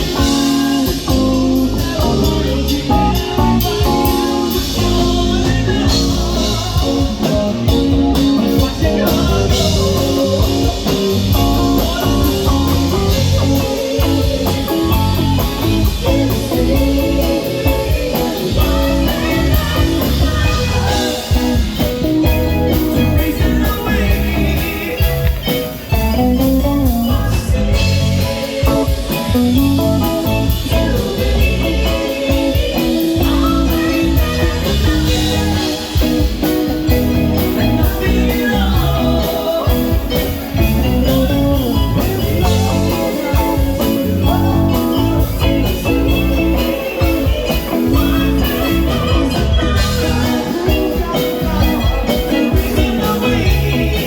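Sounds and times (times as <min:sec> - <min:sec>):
live soft rock band: 0:00.0 - 0:54.0
person singing: 0:00.0 - 0:54.0.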